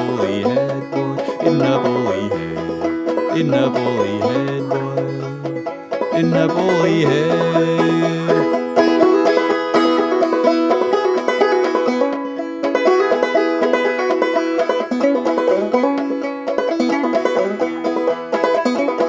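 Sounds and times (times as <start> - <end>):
clawhammer banjo playing: 0.0 - 19.0.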